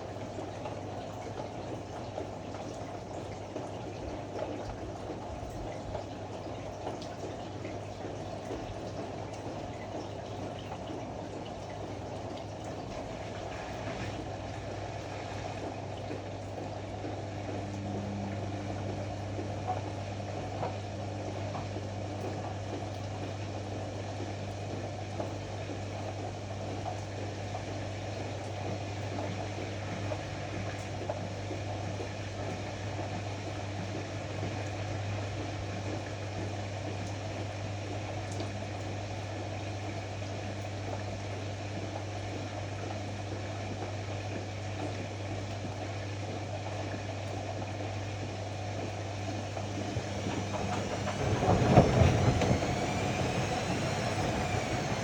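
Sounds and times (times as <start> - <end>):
washer-dryer humming: 0.0 - 55.0.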